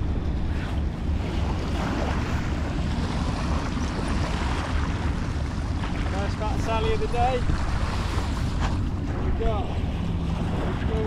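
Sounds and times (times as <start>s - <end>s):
waves lapping on shingle: 0.0s - 11.0s
wind buffeting microphone: 0.0s - 11.0s.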